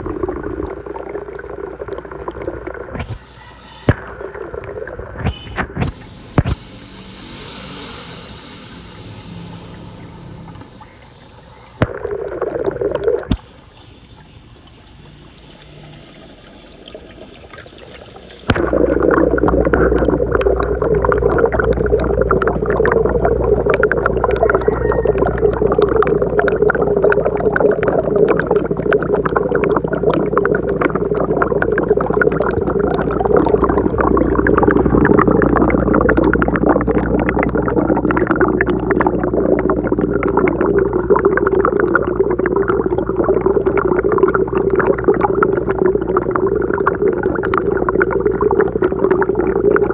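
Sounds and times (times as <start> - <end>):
aquarium water bubbling: 0.0 - 49.9.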